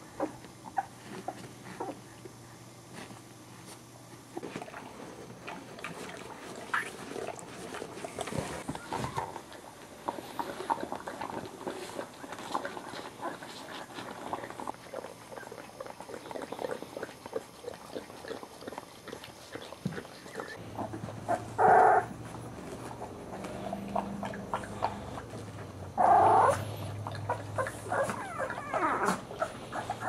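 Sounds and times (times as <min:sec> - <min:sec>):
puppies moving and sniffing: 0:00.0 - 0:30.0.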